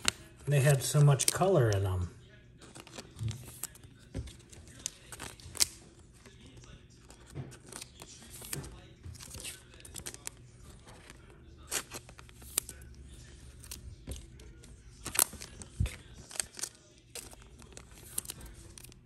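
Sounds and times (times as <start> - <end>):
plastic card sleeves rustling: 0.0 - 19.0.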